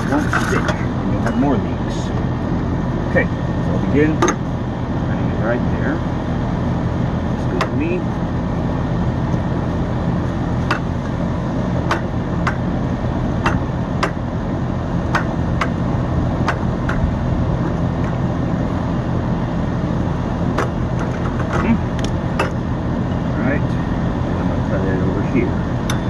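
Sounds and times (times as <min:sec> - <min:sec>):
air conditioning unit humming: 0:00.0 - 0:26.0.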